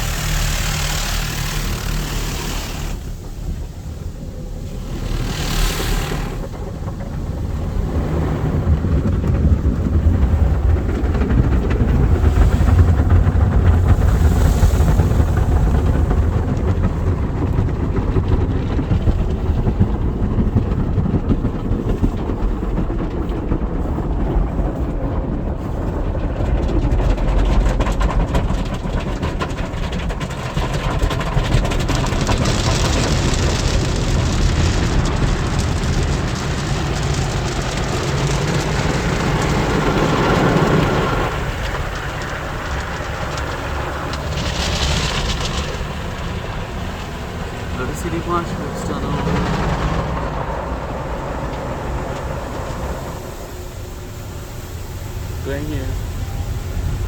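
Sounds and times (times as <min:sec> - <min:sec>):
water spraying on car body: 0:00.0 - 0:22.5, 0:25.4 - 0:57.0
car wash machinery rumbling: 0:00.0 - 0:57.0.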